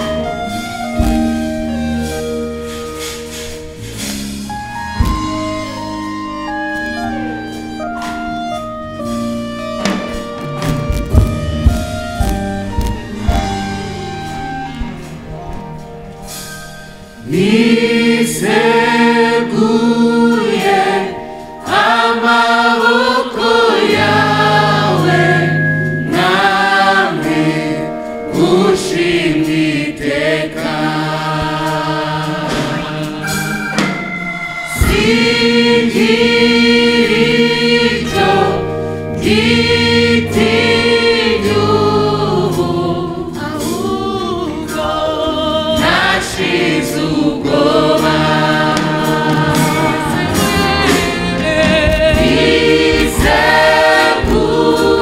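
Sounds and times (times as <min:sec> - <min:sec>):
gospel choir singing: 0:00.0 - 0:55.0.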